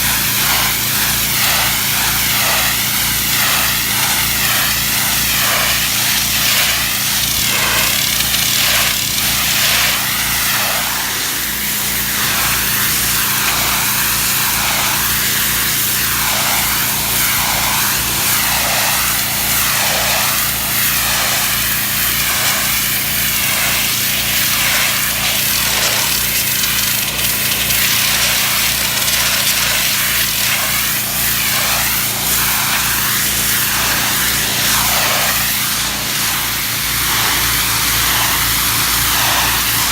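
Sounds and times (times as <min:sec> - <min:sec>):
high-pressure spray hissing on brick: 0:00.0 - 0:39.9
pressure washer engine drone: 0:00.0 - 0:39.9.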